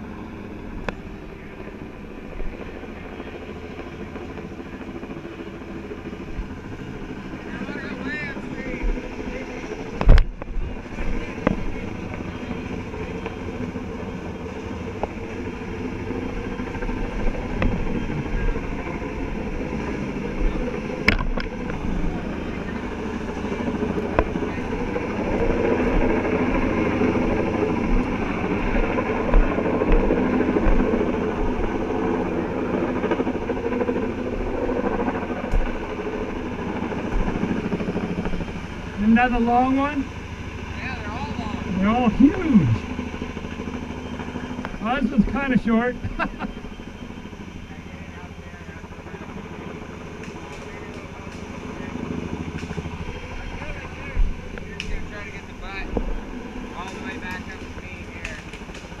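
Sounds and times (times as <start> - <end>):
helicopter rotor drone: 0.0 - 59.0.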